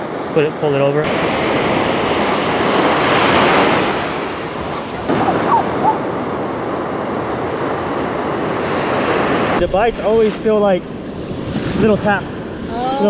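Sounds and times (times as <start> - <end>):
surf breaking on beach: 0.2 - 12.8.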